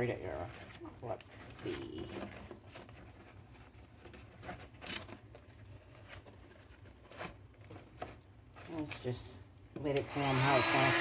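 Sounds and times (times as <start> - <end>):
plastic container crinkling: 0.0 - 9.2.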